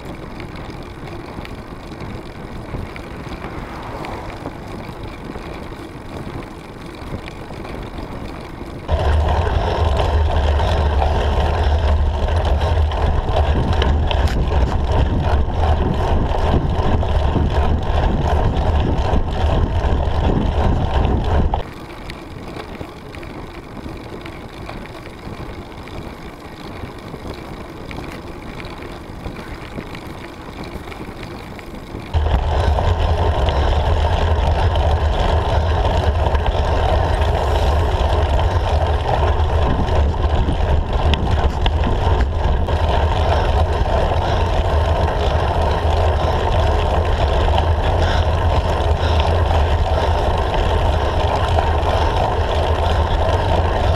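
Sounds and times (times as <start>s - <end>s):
wind buffeting microphone: 0.0s - 21.7s, 22.4s - 53.9s.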